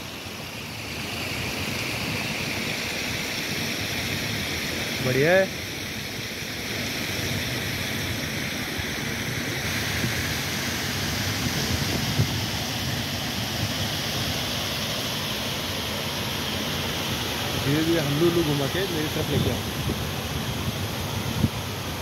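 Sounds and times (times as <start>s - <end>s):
fountain splashing: 0.0s - 22.0s.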